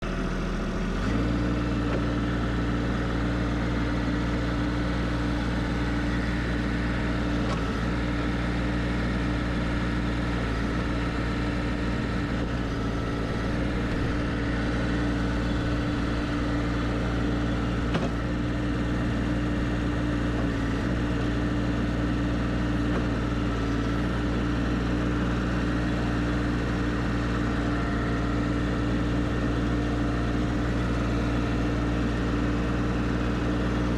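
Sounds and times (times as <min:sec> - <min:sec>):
diesel engine droning: 0:00.0 - 0:33.9.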